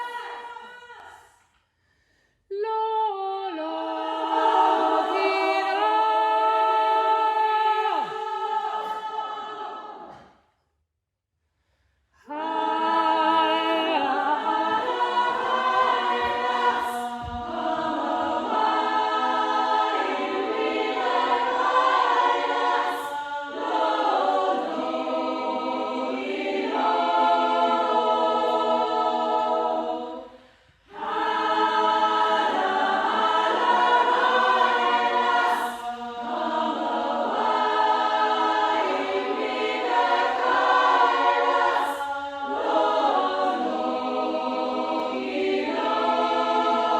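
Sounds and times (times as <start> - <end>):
choir singing: 0.0 - 1.3, 2.7 - 10.6, 12.2 - 46.9.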